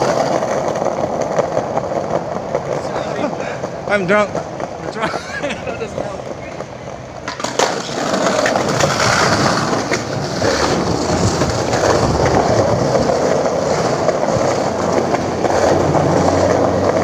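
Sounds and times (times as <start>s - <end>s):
skateboard wheels rolling on pavement: 0.0s - 17.0s.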